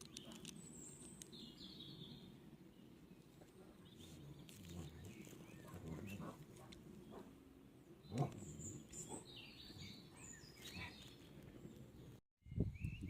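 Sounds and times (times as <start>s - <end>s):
distant bird chirps: 0.0s - 13.0s.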